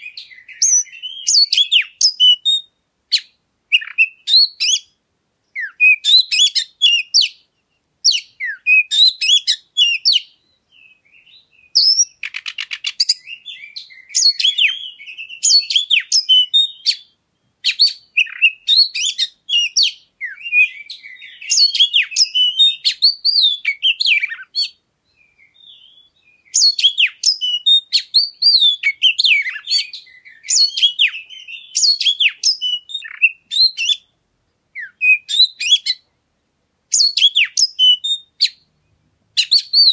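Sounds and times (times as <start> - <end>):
songbird singing whistles: 0.0 - 36.1, 36.9 - 39.9.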